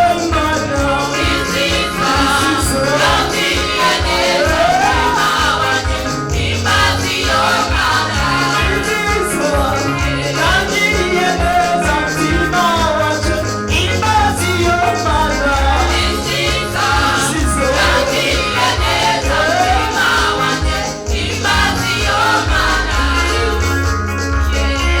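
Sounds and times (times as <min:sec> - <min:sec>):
band with pulsing bass beat: 0:00.0 - 0:25.0
group of voices singing: 0:00.0 - 0:25.0.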